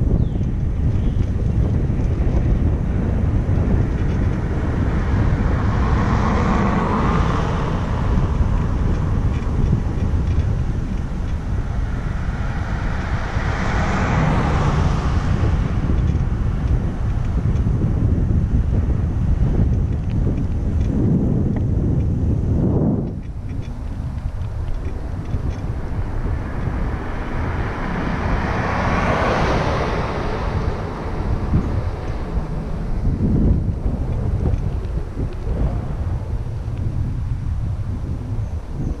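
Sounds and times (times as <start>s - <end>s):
vehicles passing: 0.0s - 39.0s
wind rumbling on microphone: 0.0s - 39.0s.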